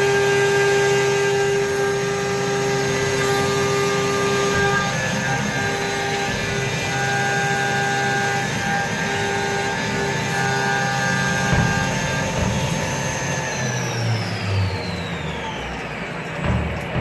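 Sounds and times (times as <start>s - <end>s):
milling machine spindle whine: 0.0s - 17.0s.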